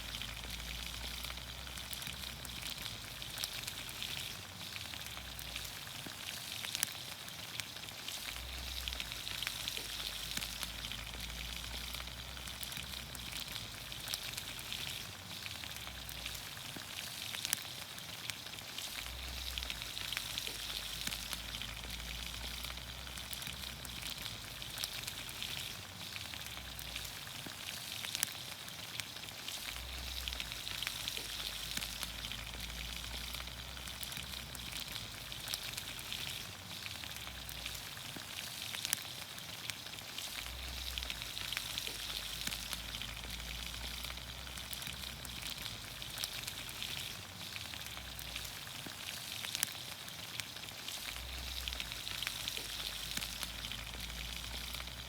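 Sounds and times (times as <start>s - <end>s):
vegetables sizzling in a pan: 0.0s - 55.0s.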